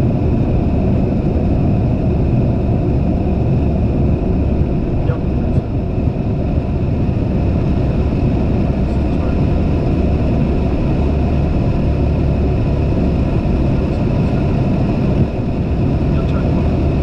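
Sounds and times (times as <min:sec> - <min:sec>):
aircraft engine and propeller drone: 0:00.0 - 0:17.0
wheels rumbling on runway: 0:00.0 - 0:17.0.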